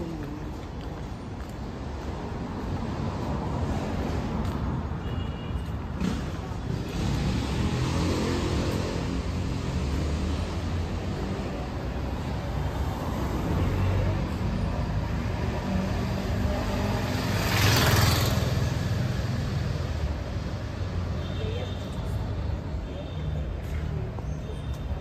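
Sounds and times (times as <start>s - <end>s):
cars passing with low rumble: 0.0s - 25.0s.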